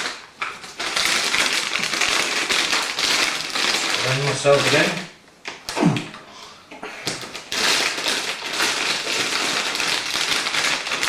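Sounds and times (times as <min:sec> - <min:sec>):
packaging scrape: 0:00.0 - 0:05.1, 0:07.2 - 0:11.0
packaging rustling: 0:00.0 - 0:05.2, 0:07.1 - 0:11.0.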